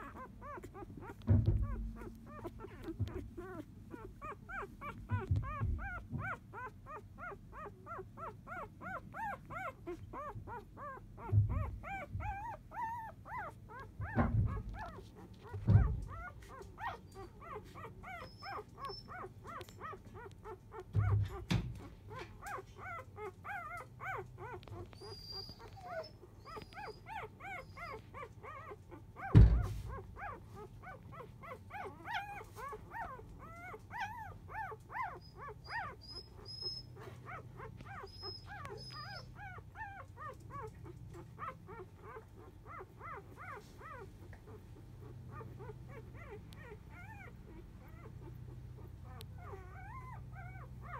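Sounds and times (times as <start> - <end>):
puppies squeaking and whimpering: 0.0 - 50.9.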